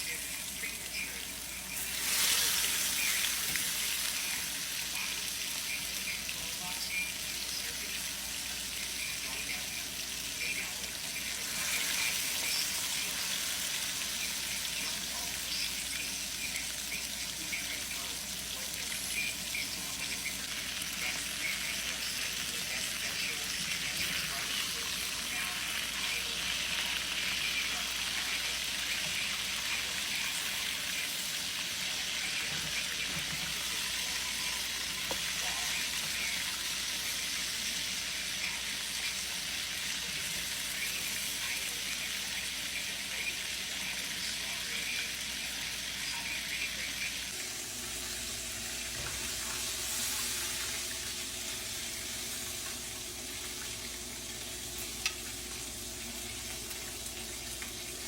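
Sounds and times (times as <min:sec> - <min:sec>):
cutlets sizzling in oil: 0:00.0 - 0:58.0.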